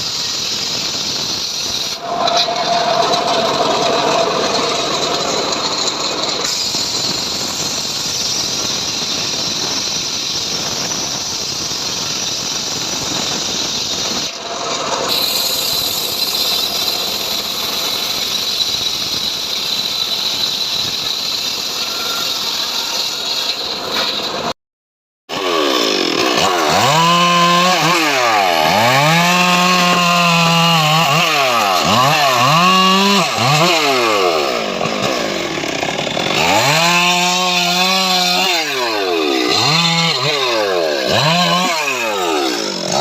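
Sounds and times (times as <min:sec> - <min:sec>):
band saw blade whining: 0:00.0 - 0:24.6, 0:25.3 - 0:43.0
sawmill machine noise: 0:00.0 - 0:24.6, 0:25.3 - 0:43.0.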